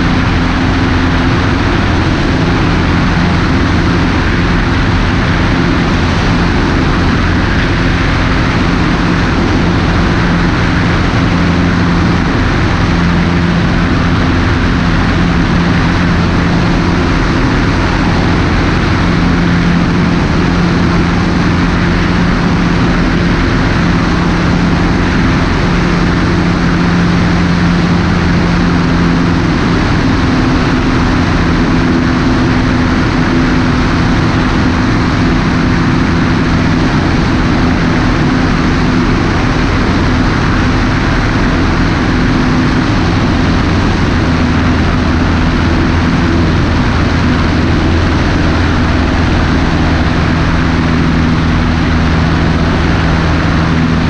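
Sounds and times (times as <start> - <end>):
light aircraft engine and propeller droning: 0.0 - 54.0
rushing wind: 0.0 - 54.0.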